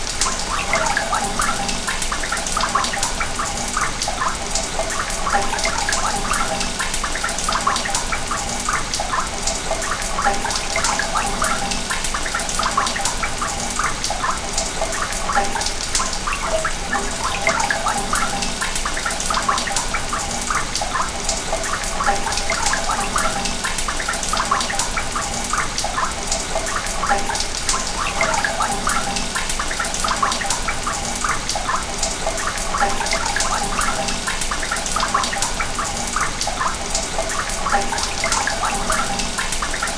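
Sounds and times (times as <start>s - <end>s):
water rushing through pipes: 0.0s - 39.9s.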